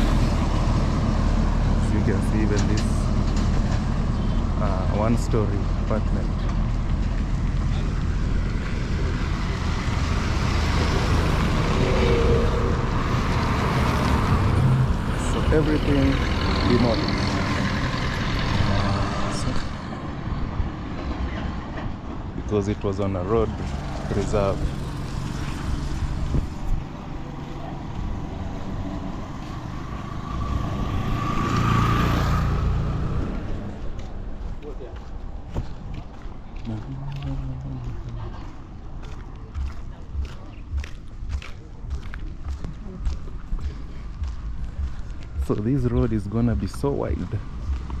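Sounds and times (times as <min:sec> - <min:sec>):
moving vehicle rumble: 0:00.0 - 0:48.0.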